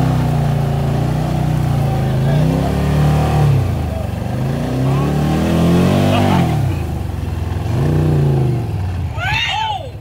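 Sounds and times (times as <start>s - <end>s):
atv engine revving: 0.0s - 9.6s.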